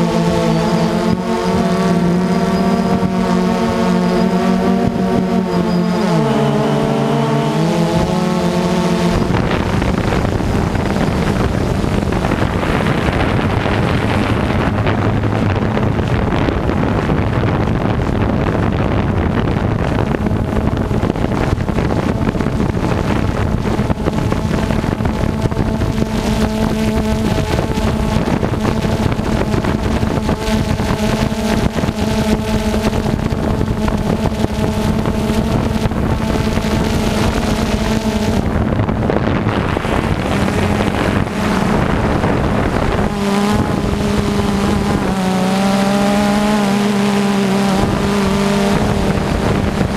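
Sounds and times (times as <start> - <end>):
dense mechanical rush: 0.0 - 49.9
large engine droning: 0.0 - 49.9.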